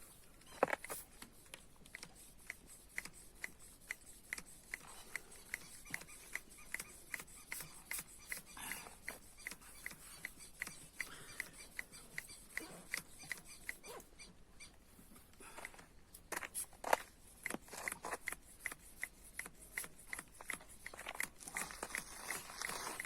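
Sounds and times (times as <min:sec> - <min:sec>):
hand pump ticking: 0:00.7 - 0:13.9, 0:15.5 - 0:23.0.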